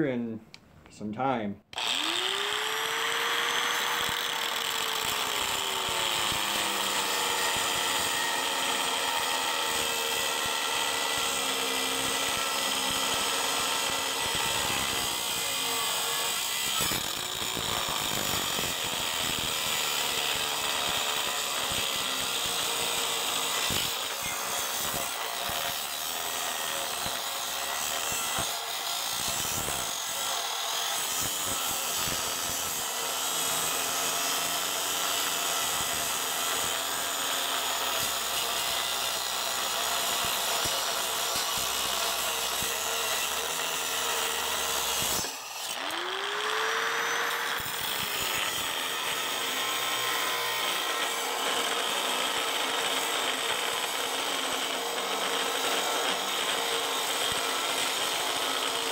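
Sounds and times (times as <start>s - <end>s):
angle grinder cutting metal: 1.7s - 58.9s.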